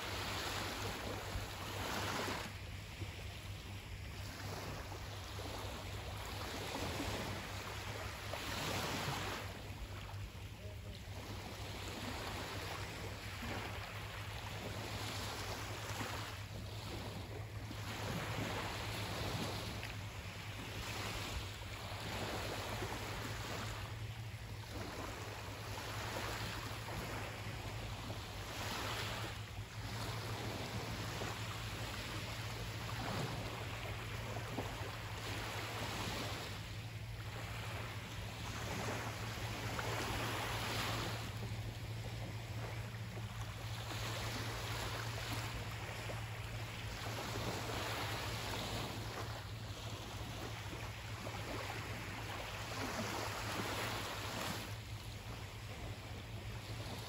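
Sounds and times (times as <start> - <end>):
sea waves breaking: 0.0 - 57.0
steady low hum: 0.0 - 57.0.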